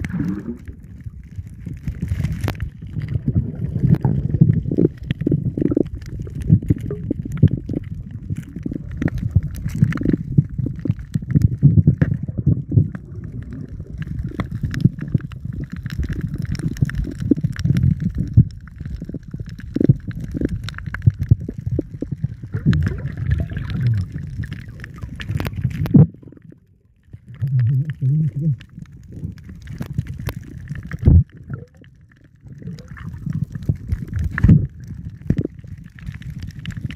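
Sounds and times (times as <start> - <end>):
underwater rumble of moving water: 0.0 - 36.9.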